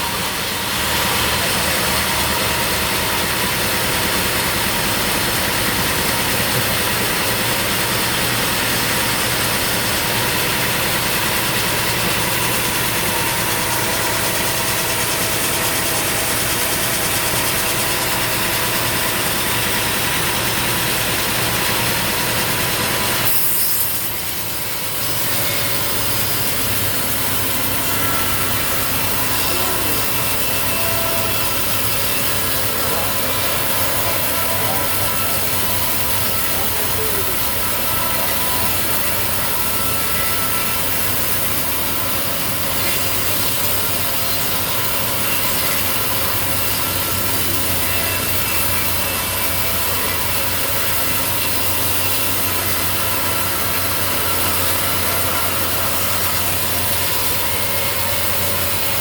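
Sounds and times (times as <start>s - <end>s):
engine running: 0.0s - 59.0s
sawmill blade cutting log: 0.0s - 59.0s.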